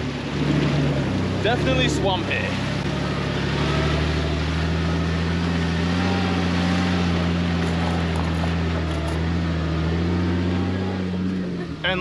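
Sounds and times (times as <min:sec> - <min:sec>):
car engine driving slowly: 0:00.0 - 0:12.0.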